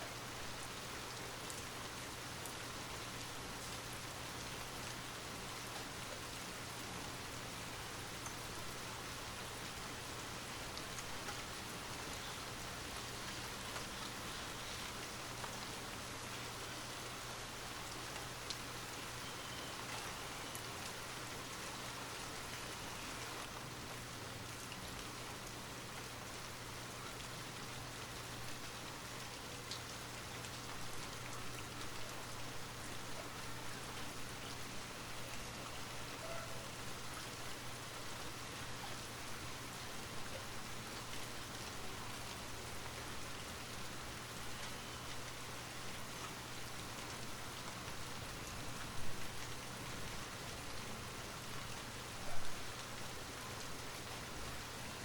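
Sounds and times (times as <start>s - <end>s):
light rain hiss: 0.0s - 55.0s
raindrops ticking on a surface: 0.0s - 55.0s.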